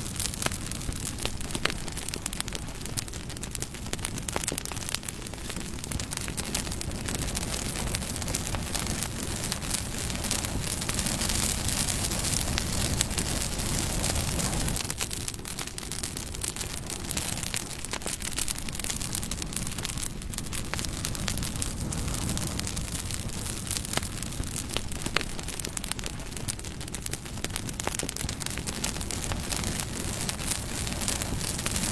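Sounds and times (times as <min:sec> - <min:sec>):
campfire hissing and crackling: 0:00.0 - 0:31.9.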